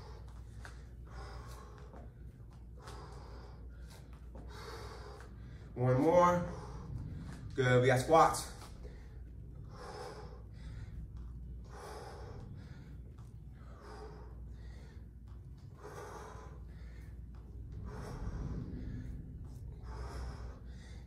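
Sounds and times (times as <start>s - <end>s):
man breathing hard: 0.0s - 21.0s.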